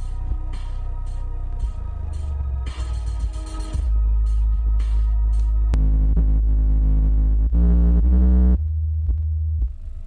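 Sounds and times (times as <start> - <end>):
deep subwoofer bass notes: 0.0 - 10.0.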